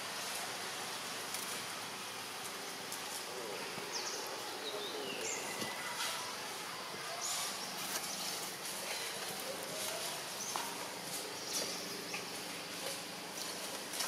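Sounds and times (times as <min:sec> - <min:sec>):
outdoor ambience hiss: 0:00.0 - 0:14.0.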